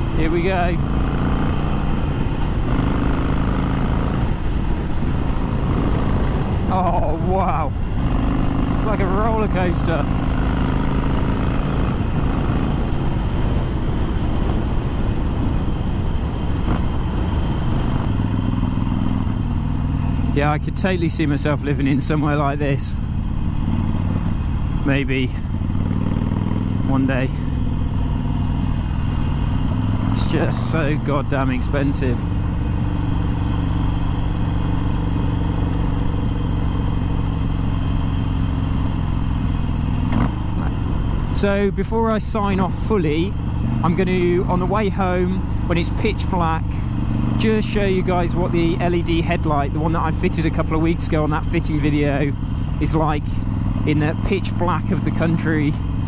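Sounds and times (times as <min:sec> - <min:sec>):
motorcycle engine running: 0:00.0 - 0:56.0
wind and road rush: 0:00.0 - 0:56.0.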